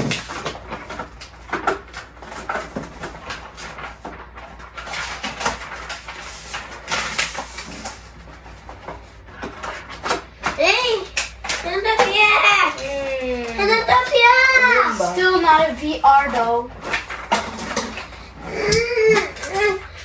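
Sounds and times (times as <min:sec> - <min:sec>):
packaging rustling: 0:00.0 - 0:20.0.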